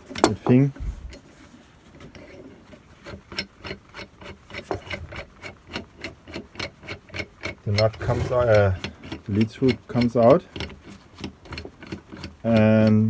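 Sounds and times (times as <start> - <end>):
vise screw ticking: 0.0 - 1.3, 2.1 - 13.0
light metal rub: 0.0 - 13.0.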